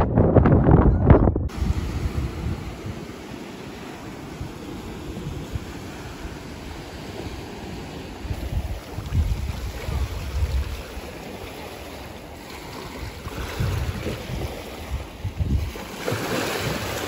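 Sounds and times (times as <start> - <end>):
wind gusting on microphone: 0.0 - 17.0
sea surf rushing: 1.5 - 17.0.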